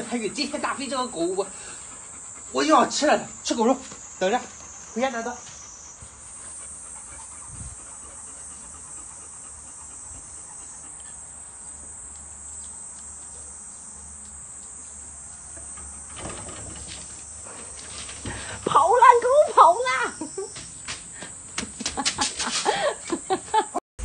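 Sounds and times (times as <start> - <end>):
dogs shuffling on concrete: 0.0 - 23.6
insects chirring: 0.0 - 23.8.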